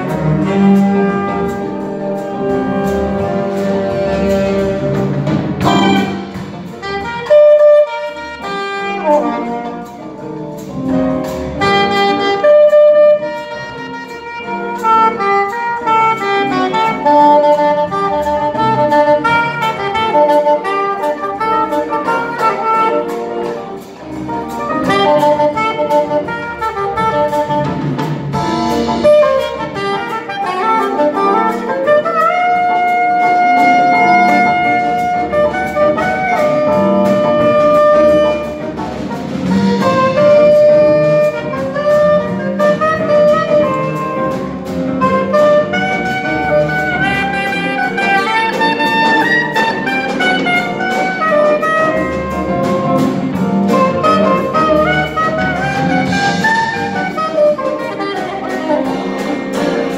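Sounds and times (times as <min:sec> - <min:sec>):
double bass: 0:00.0 - 0:59.9
drum kit beat: 0:00.0 - 0:59.9
piano: 0:00.0 - 0:59.9
saxophones playing melody: 0:00.0 - 0:59.9.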